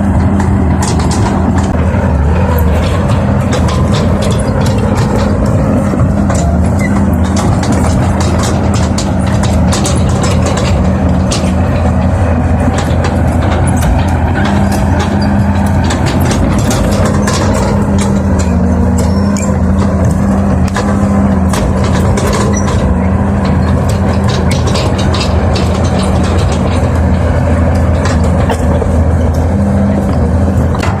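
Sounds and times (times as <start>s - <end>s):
diesel engine running: 0.0s - 31.0s
short clicks and rattles: 0.1s - 31.0s.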